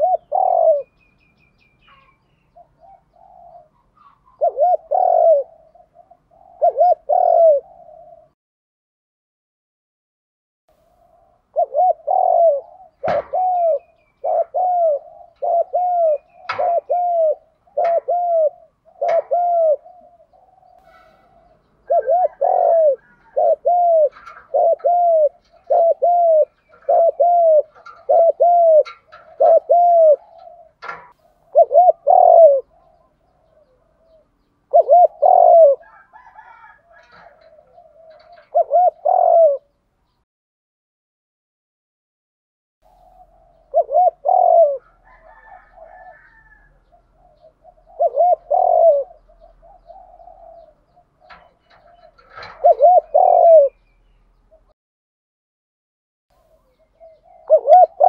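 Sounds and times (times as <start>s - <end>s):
dove cooing: 0.0s - 8.4s, 10.9s - 39.8s, 42.9s - 54.7s, 56.4s - 58.0s.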